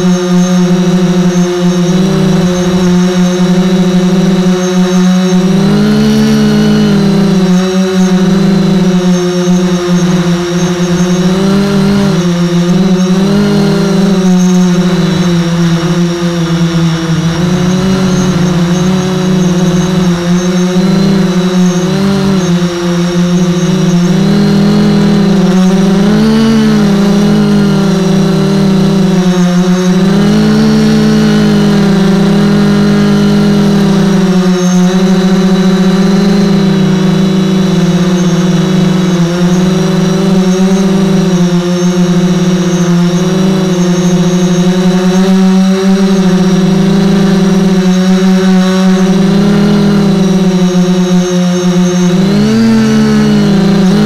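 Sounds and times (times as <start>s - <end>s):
model boat motor droning: 0.0s - 54.0s.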